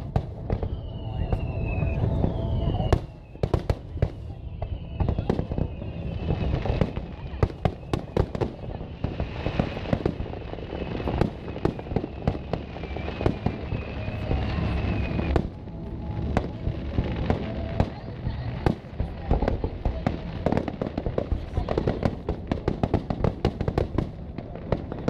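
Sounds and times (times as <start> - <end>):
fireworks bangs: 0.0 - 25.0
low rumble: 0.0 - 25.0.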